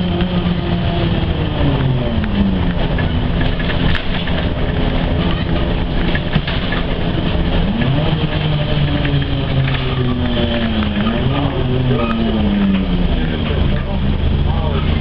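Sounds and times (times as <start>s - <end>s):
bus diesel engine running: 0.0s - 15.0s
bus body clicks and rattles: 1.7s - 13.9s.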